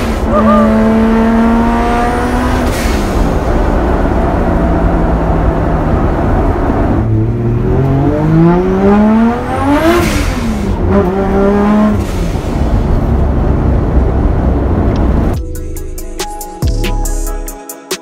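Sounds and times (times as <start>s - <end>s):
car engine accelerating hard: 0.0s - 15.4s.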